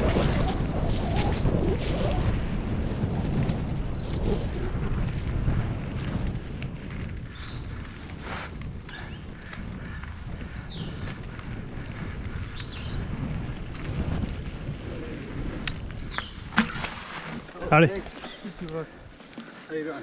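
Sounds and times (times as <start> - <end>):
bike clicks and rattles: 0.0 - 20.0
tyres rumbling over dirt trail: 0.0 - 20.0
wind buffeting microphone: 0.0 - 20.0.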